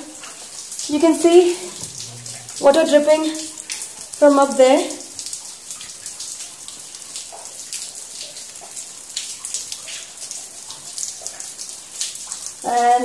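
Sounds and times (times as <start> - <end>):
steady water trickle: 0.0 - 13.0
water dripping and splashing: 0.0 - 13.0.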